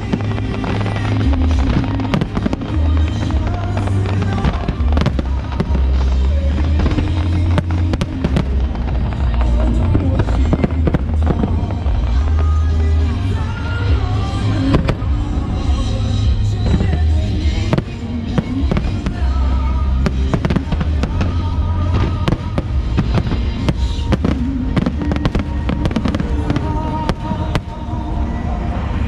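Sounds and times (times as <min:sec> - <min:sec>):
fireworks booms and bangs: 0:00.0 - 0:29.0
music playing: 0:00.0 - 0:29.0.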